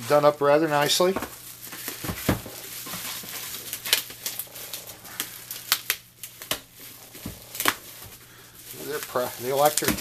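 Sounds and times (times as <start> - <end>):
bubble wrap crackling: 0.0 - 10.0.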